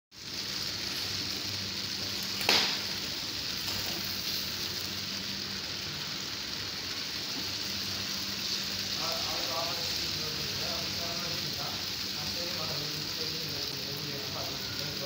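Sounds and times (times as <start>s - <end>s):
food sizzling in hot oil: 0.1s - 15.0s.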